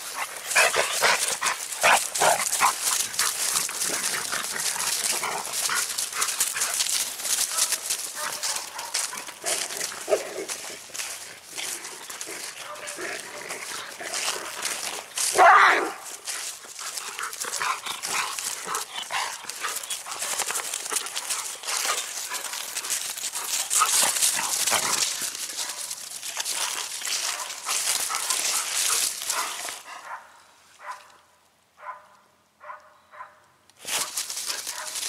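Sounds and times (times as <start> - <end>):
dogs play-fighting: 0.0 - 15.5, 16.1 - 30.3, 33.8 - 35.0
leaves and grass rustling: 0.0 - 31.2, 33.8 - 35.0.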